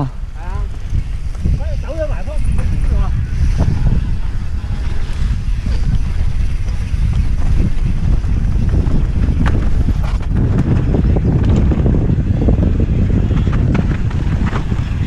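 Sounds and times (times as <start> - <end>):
bike rattling over bumps: 0.0 - 15.0
wind buffeting microphone: 0.0 - 15.0
tyres rumbling over dirt: 2.6 - 15.0.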